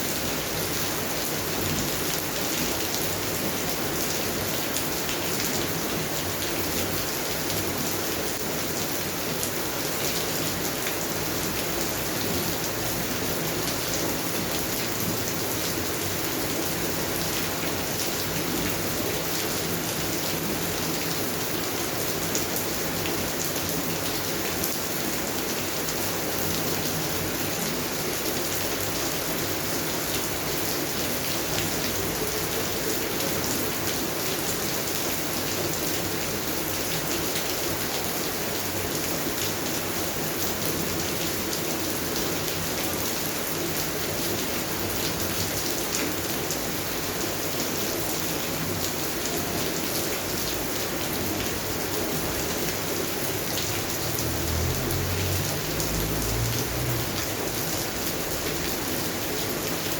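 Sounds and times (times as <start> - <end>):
rain falling on plants: 0.0 - 59.9.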